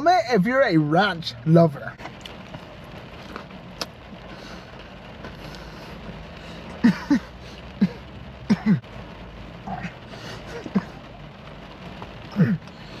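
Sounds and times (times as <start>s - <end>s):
rain on car roof: 0.0s - 13.0s.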